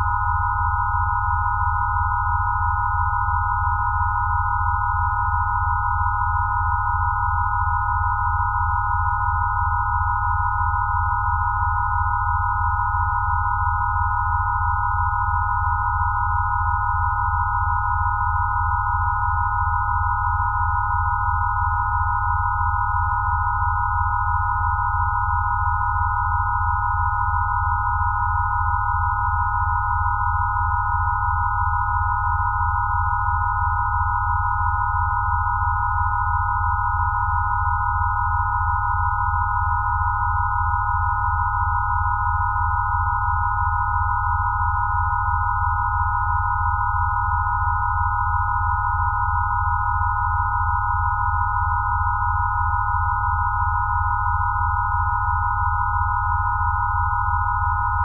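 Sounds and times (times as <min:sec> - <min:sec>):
high sine-wave tones: 0:00.0 - 0:58.0.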